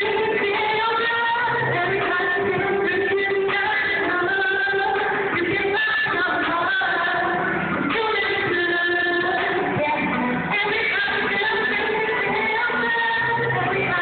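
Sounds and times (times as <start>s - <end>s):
musical accompaniment: 0.0s - 14.0s
woman singing: 0.0s - 14.0s.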